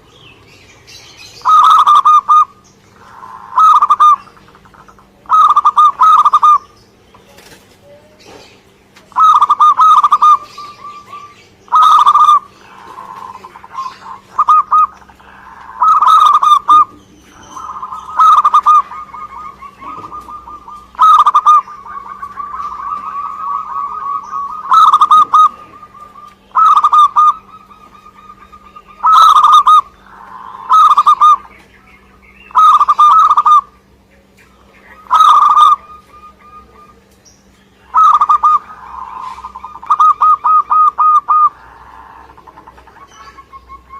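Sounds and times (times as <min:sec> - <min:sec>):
faint steady hum: 0:00.0 - 0:43.9
dove cooing: 0:00.8 - 0:08.2, 0:09.0 - 0:43.9.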